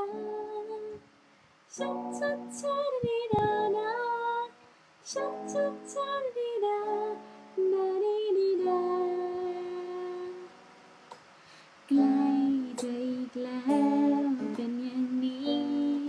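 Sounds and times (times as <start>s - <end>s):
woman singing: 0.0s - 1.0s, 1.7s - 10.5s, 11.9s - 16.0s.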